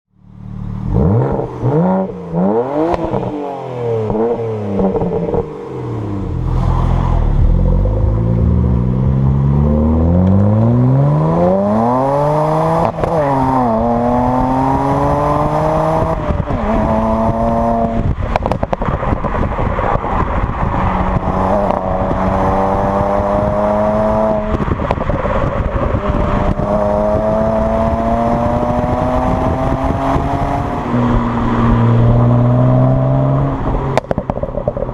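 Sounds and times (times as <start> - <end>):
car engine revving: 0.3 - 34.9
exhaust crackling: 0.4 - 34.9.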